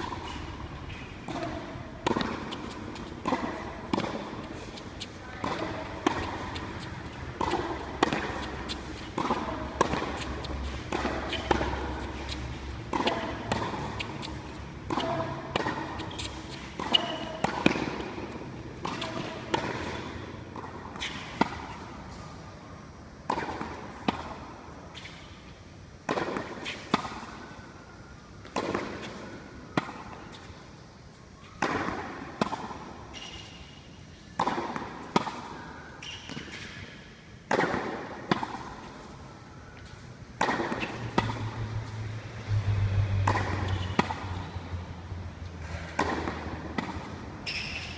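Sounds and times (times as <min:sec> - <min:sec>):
tennis balls struck by rackets: 0:00.0 - 0:22.2, 0:23.2 - 0:25.2, 0:26.0 - 0:27.4, 0:28.4 - 0:30.5, 0:31.5 - 0:33.6, 0:34.2 - 0:47.9.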